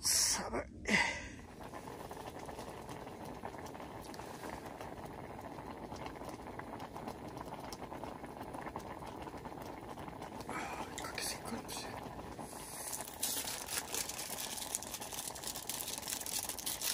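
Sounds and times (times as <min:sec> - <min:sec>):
liquid boiling in a pot: 0:01.0 - 0:16.9.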